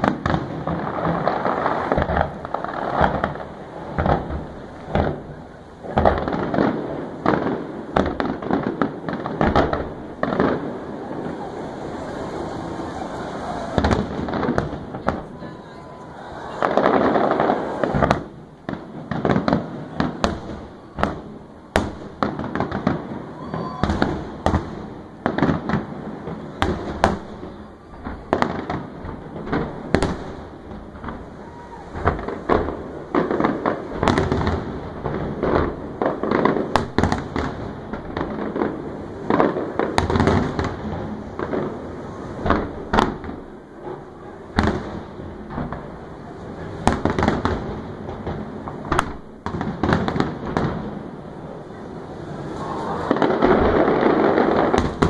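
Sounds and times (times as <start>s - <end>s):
firework shells bursting with bangs: 0.0s - 51.3s, 52.2s - 55.0s.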